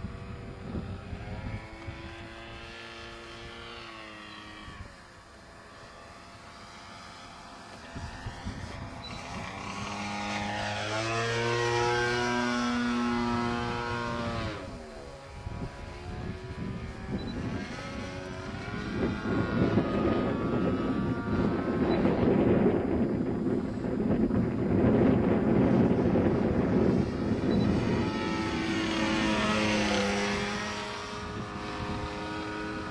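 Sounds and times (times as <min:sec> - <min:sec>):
propeller plane flying past: 0:00.0 - 0:32.9
wind rumble on microphone: 0:00.0 - 0:32.9.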